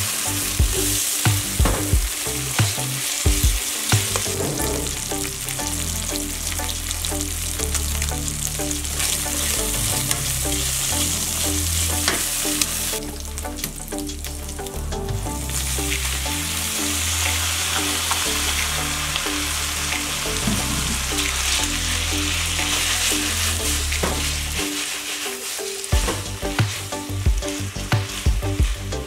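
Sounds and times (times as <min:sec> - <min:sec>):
bacon sizzling in a frying pan: 0:00.0 - 0:14.3, 0:15.6 - 0:28.9.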